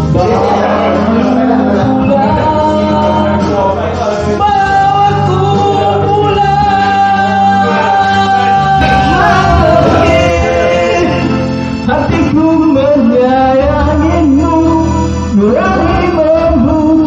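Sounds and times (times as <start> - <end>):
pop ballad with singing: 0.0 - 17.0.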